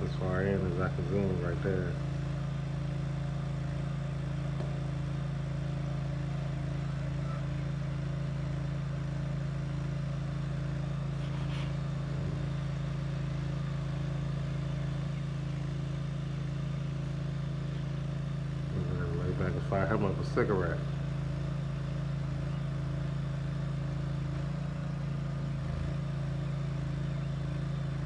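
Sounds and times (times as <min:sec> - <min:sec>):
small engine humming: 0:00.0 - 0:28.0.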